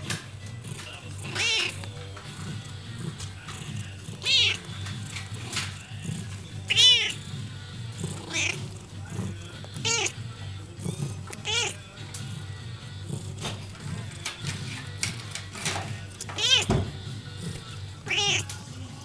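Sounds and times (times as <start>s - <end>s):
kittens mewing: 0.0s - 19.0s.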